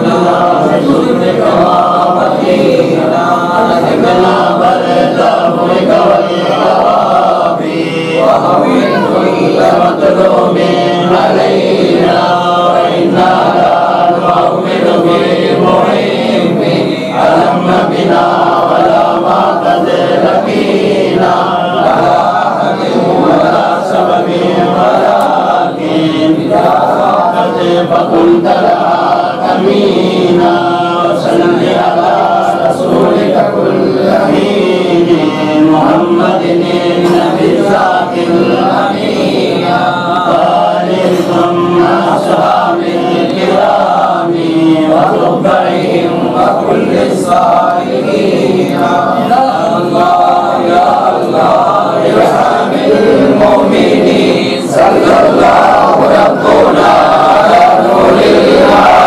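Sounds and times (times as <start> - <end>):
men chanting in unison: 0.0 - 59.0.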